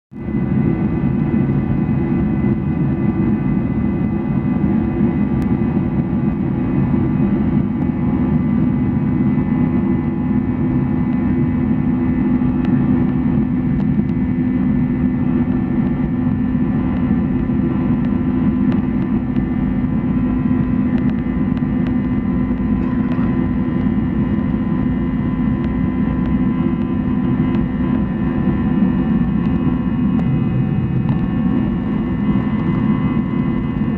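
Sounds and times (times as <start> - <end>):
jet engines at high power: 0.1 - 33.9.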